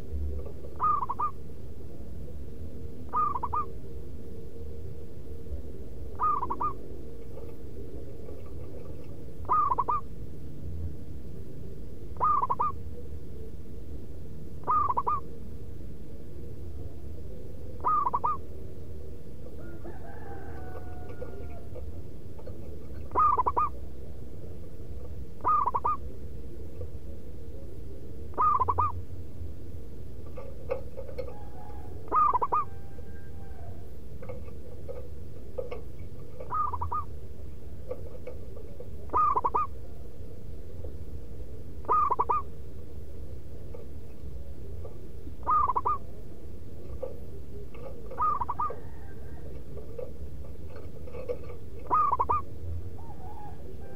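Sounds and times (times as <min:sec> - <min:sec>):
dove cooing: 0:00.0 - 0:53.9
low hum: 0:00.0 - 0:53.9.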